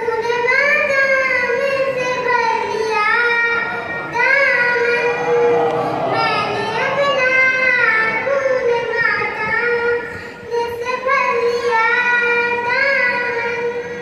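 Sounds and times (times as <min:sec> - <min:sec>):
boy chanting into a microphone: 0:00.0 - 0:14.0.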